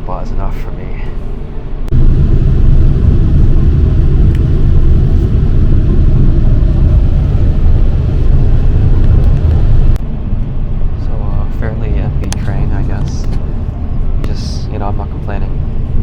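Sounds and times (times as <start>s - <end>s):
train rumble: 0.4s - 16.0s.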